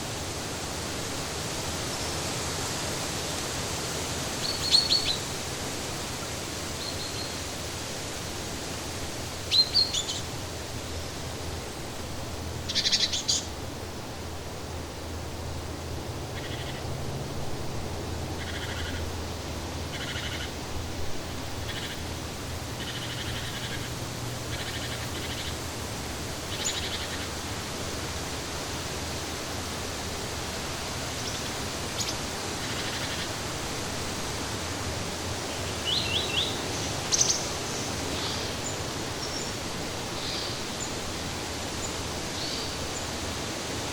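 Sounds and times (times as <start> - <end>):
steady rushing background noise: 0.0 - 43.9.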